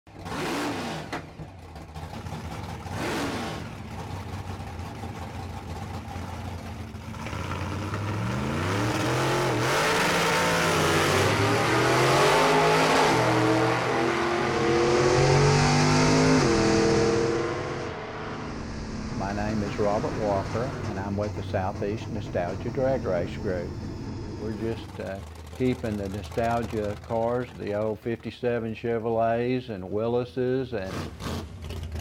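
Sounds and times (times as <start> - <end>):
racing car engine revving: 0.1 - 28.1, 30.8 - 32.0.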